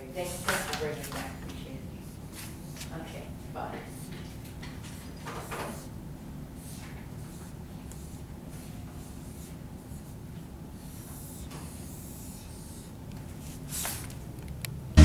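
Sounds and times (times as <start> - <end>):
low background hum: 0.0 - 15.0
marker writing on whiteboard: 0.2 - 6.0, 6.6 - 14.0.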